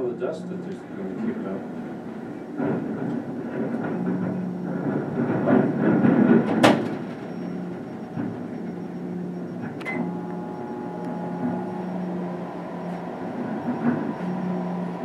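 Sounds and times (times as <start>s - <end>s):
excavator humming: 0.0s - 15.0s.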